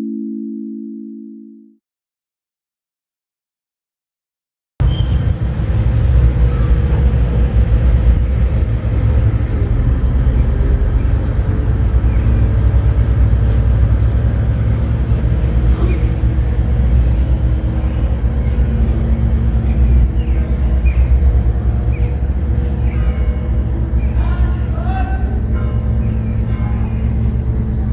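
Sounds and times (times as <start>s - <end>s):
low outdoor rumble: 4.8s - 27.9s.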